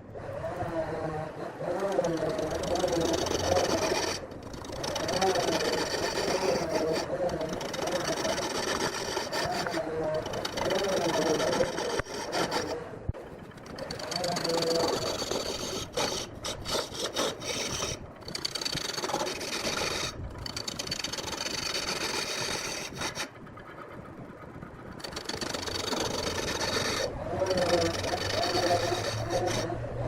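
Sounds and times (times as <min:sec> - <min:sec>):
lathe tool scraping spinning log: 0:00.2 - 0:30.0.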